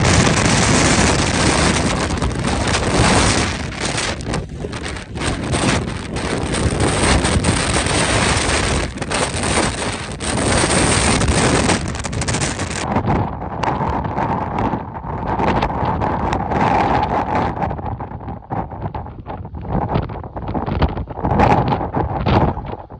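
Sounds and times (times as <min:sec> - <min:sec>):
wind buffeting the microphone: 0:00.0 - 0:22.9.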